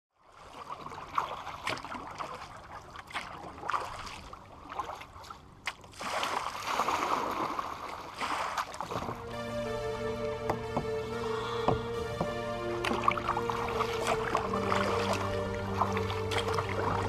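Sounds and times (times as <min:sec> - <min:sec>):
paddle strokes splashing water: 0:00.2 - 0:17.0.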